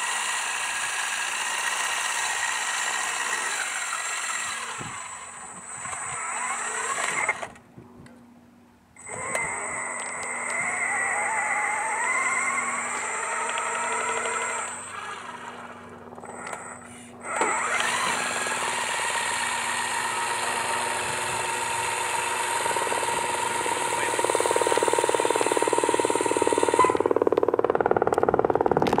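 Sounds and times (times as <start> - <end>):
fast mechanical rattle: 0.0 - 7.6, 9.0 - 29.0
electric drive motors whining: 0.0 - 7.7, 8.9 - 29.0.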